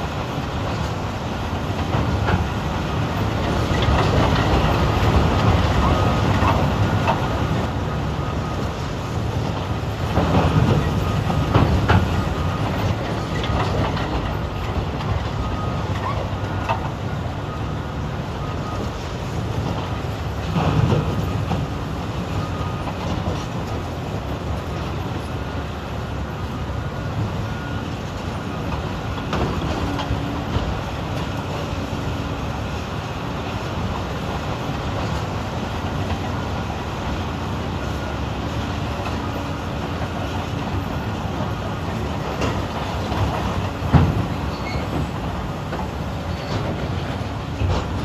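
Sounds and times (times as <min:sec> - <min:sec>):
heavy diesel engines running: 0:00.0 - 0:48.0.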